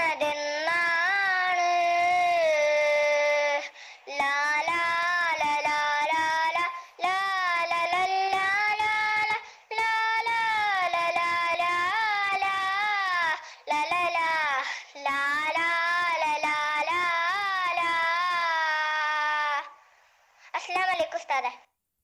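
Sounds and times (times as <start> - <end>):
child singing: 0.0 - 19.8, 20.6 - 21.5.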